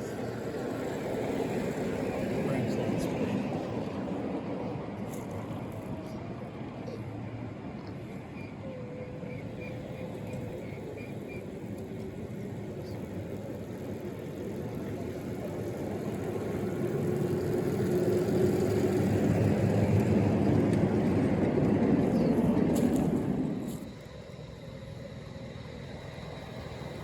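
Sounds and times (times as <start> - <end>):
miniature train running on track: 0.0 - 27.0.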